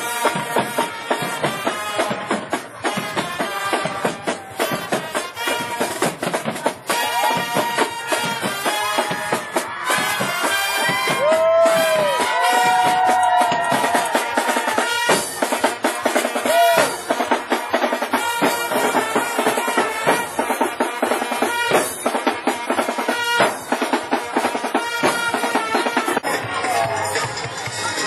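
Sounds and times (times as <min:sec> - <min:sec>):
marching drums playing fast: 0:00.0 - 0:28.0.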